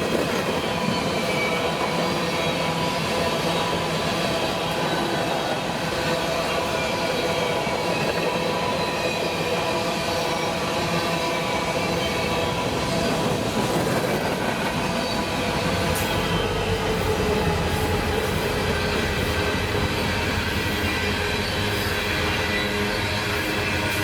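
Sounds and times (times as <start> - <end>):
freight train rumbling past: 0.0 - 24.0
wheels squealing on rails: 0.0 - 24.0.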